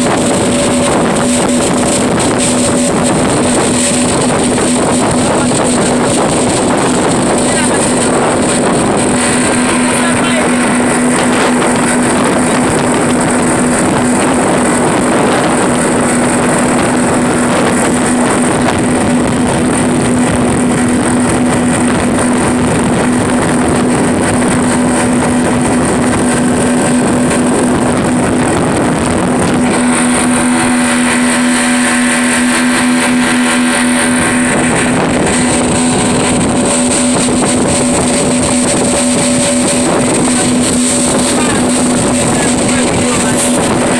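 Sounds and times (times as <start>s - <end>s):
outboard motors droning: 0.0s - 43.9s
rushing water: 0.0s - 43.9s
wind: 0.0s - 43.9s.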